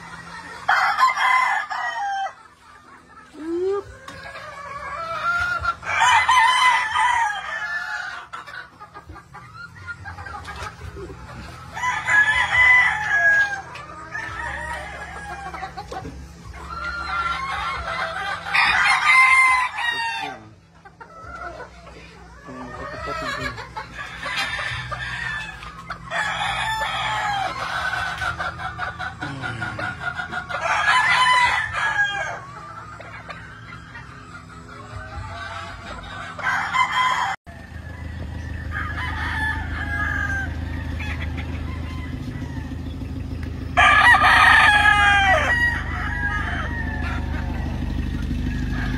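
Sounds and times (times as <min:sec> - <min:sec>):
hens clucking: 0:00.0 - 0:48.9
roosters crowing: 0:00.0 - 0:48.9.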